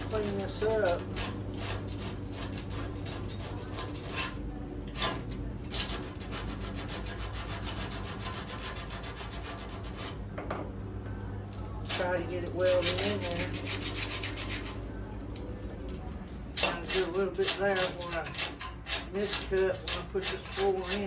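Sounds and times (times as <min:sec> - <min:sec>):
sandpaper rubbing on metal: 0:00.0 - 0:04.4, 0:05.0 - 0:10.2, 0:11.9 - 0:14.8, 0:16.6 - 0:21.0.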